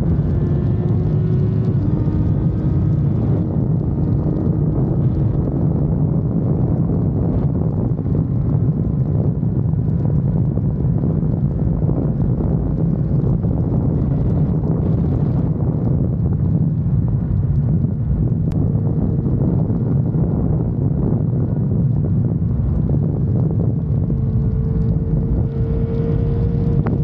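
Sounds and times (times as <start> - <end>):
wind noise: 0.0 - 27.0.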